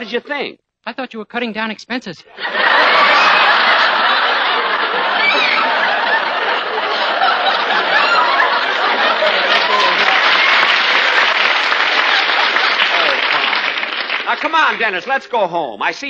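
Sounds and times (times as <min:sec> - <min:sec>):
audience laughing and applauding: 0:02.3 - 0:15.2.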